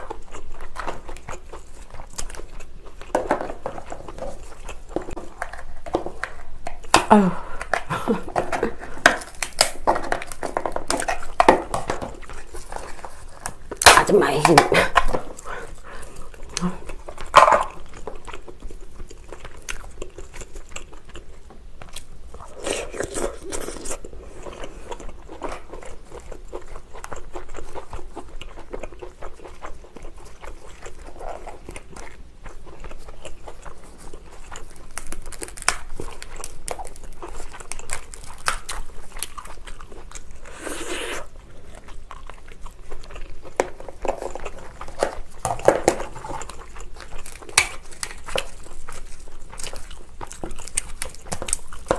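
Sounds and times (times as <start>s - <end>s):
chewing and crunching: 0.0s - 51.9s.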